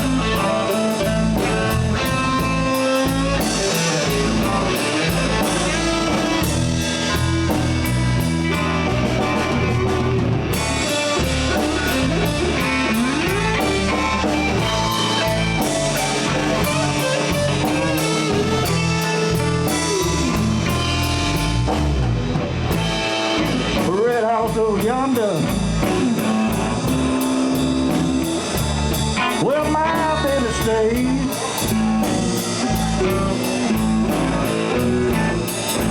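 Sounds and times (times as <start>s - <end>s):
bass guitar: 0.0s - 35.9s
drum kit with cymbals: 0.0s - 35.9s
electric guitar bending notes: 0.0s - 35.9s.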